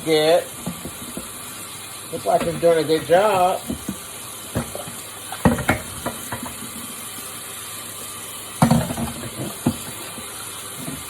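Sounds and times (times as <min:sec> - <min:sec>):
steady faint hiss: 0:00.0 - 0:11.0.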